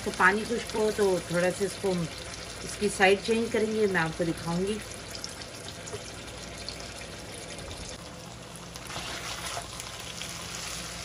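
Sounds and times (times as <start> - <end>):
chicken sizzling in a frying pan: 0.0 - 7.2, 7.8 - 11.0.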